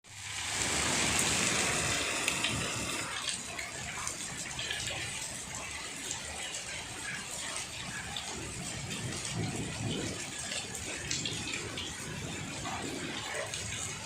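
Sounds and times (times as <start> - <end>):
heavy rain falling: 0.0 - 14.0
water splashing and pouring: 0.0 - 14.0.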